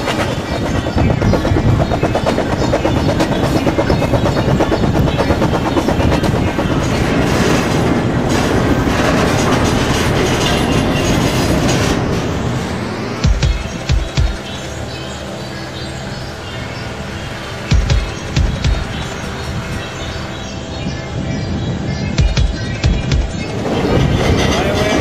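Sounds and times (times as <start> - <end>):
freight train rolling on track: 0.0 - 25.0.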